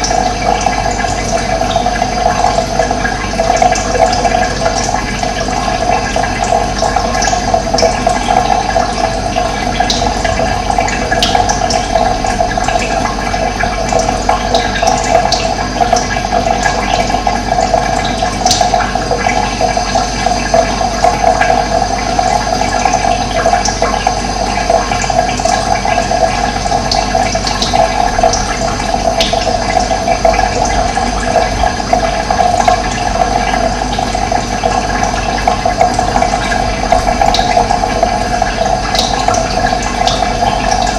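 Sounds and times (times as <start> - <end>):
running water flowing: 0.0 - 40.9.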